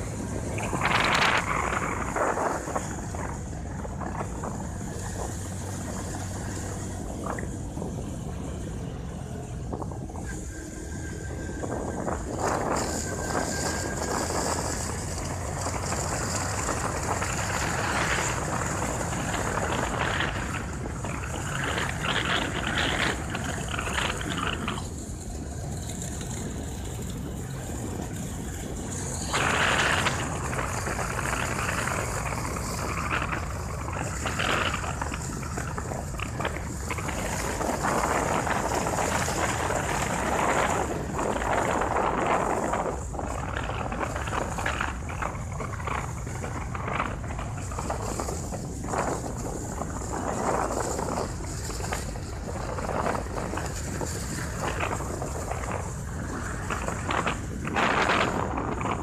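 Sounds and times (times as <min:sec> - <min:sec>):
vehicle driving rumble: 0:00.0 - 0:59.0
wind on microphone: 0:00.0 - 0:59.0.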